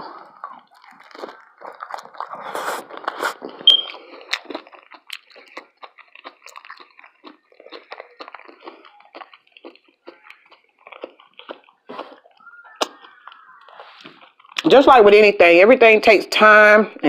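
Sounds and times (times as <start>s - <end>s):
person chewing crunchy food: 0.0s - 14.7s.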